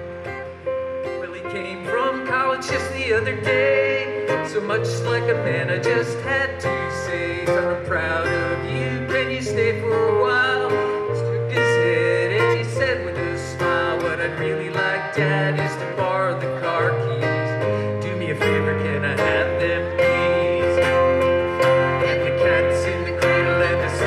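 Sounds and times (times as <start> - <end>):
keyboard: 0.0 - 24.0
low bass notes: 0.0 - 24.0
strummed acoustic guitar: 0.0 - 24.0.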